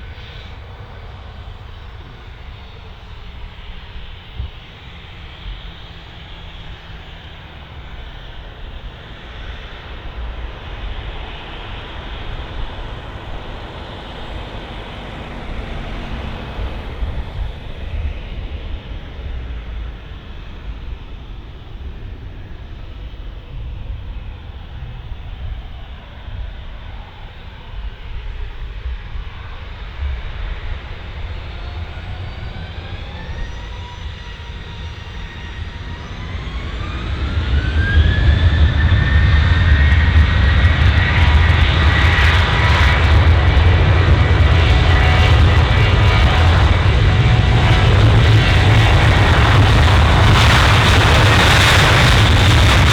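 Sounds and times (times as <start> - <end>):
jet engines running: 0.0 - 52.9
rising engine whine: 0.0 - 52.9.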